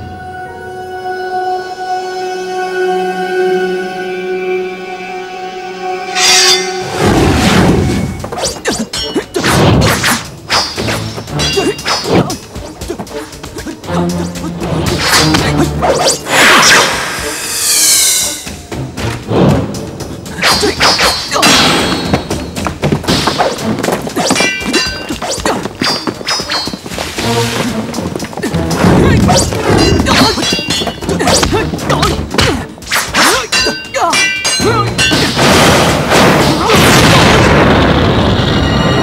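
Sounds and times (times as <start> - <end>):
background music: 0.0 - 39.0.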